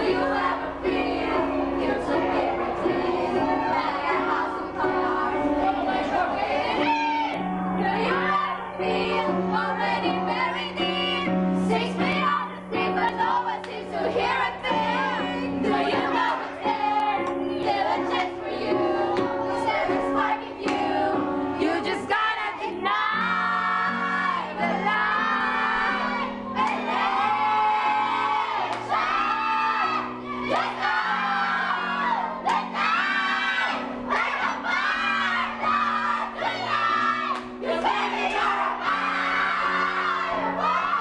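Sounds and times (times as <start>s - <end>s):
accompanying music: 0.0s - 41.0s
young voices singing: 0.0s - 41.0s.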